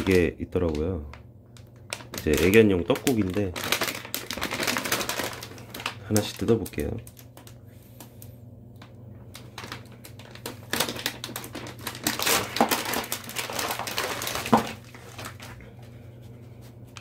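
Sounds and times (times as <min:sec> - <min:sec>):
plastic packaging crinkling: 0:00.0 - 0:15.8
low steady hum: 0:00.0 - 0:17.0.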